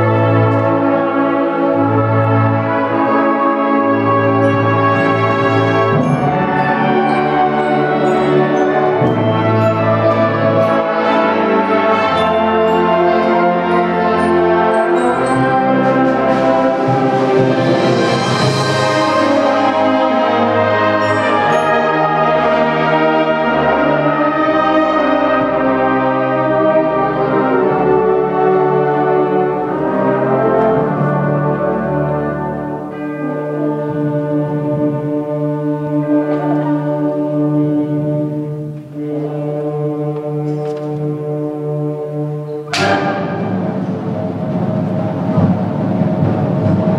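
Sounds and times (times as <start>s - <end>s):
concert band brass and woodwind: 0.0s - 46.9s.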